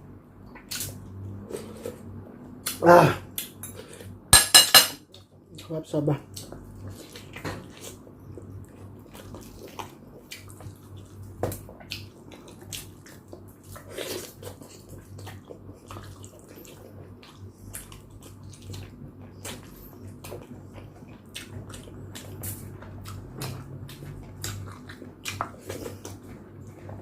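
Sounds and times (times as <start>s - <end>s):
chewing with wet smacking: 5.1s - 27.0s.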